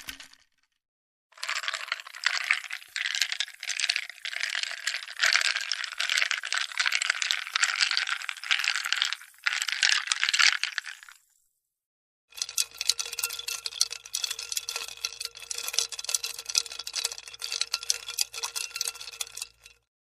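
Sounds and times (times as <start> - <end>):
ice cubes rattling: 1.4 - 11.2, 12.3 - 19.9.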